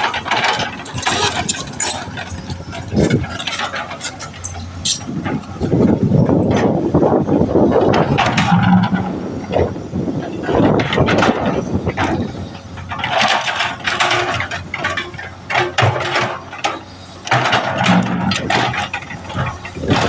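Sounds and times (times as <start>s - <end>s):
hydraulic excavator running: 0.0s - 20.0s.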